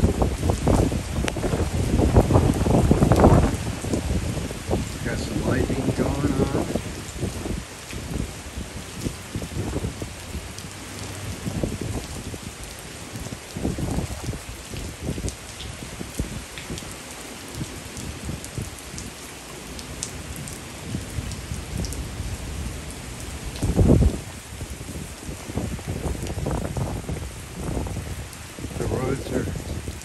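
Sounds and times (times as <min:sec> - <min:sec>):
heavy rain spattering: 0:00.0 - 0:30.0.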